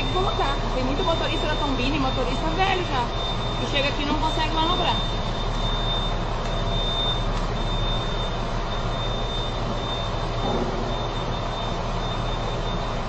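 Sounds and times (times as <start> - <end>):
diesel truck engine running: 0.0 - 13.0
thin high whine: 0.0 - 13.0.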